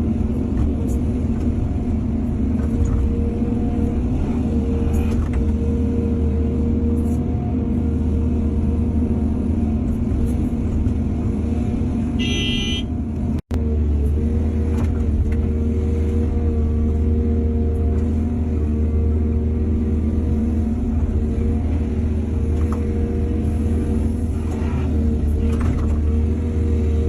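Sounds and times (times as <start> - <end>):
diesel machinery engine running: 0.0 - 27.0.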